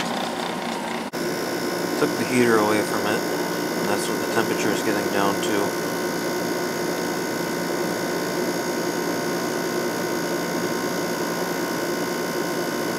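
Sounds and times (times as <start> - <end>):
compressor hum: 0.0 - 12.9
fan air rushing: 0.0 - 12.9.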